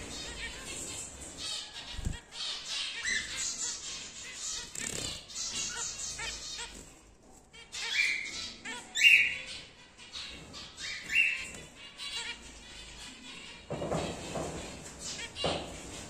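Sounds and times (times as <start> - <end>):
upward-sweeping bird calls: 0.0 - 6.8, 7.6 - 14.3
cockatiels chirping: 0.0 - 7.0, 7.6 - 14.4.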